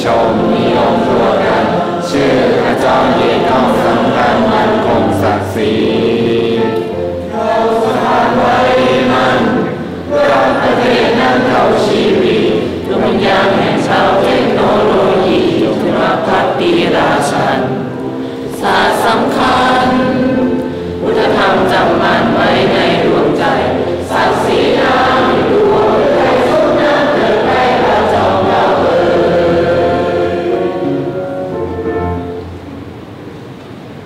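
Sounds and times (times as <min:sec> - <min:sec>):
large group singing together: 0:00.0 - 0:32.5.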